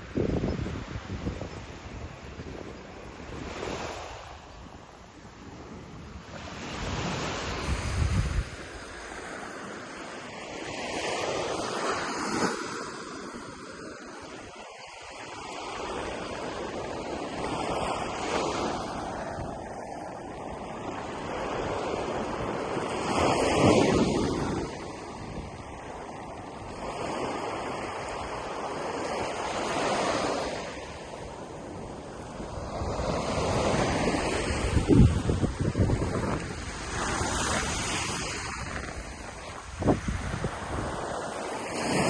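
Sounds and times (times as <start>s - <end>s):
ocean waves breaking on beach: 0.0s - 42.0s
wind buffeting microphone: 0.0s - 42.0s.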